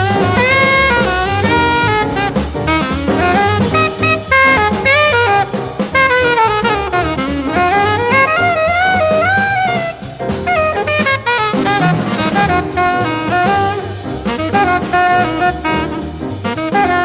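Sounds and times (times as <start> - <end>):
drums: 0.0 - 17.0
horn playing fast jazz solo: 0.0 - 17.0
walking bass: 0.0 - 17.0.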